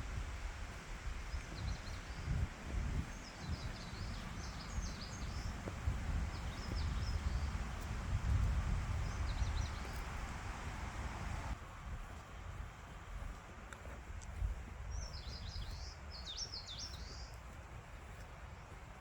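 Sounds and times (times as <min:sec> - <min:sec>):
wind rumble on microphone: 0:00.0 - 0:19.0
small birds chirping: 0:00.8 - 0:11.6, 0:13.2 - 0:19.0.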